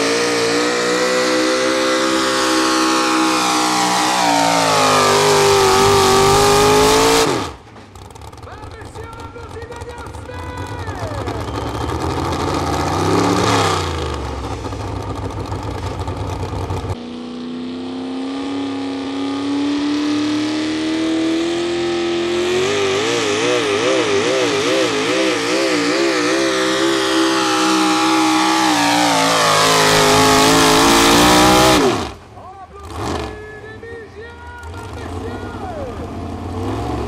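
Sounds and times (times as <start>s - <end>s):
truck engine revving at full throttle: 0.0s - 37.0s.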